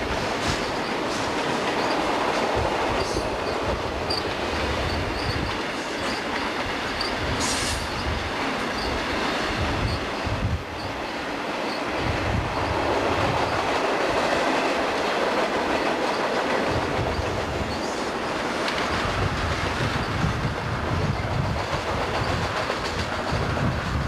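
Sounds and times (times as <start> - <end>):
train wheels rumbling on rail: 0.0 - 24.0
wheels clacking over rail joints: 0.0 - 24.0.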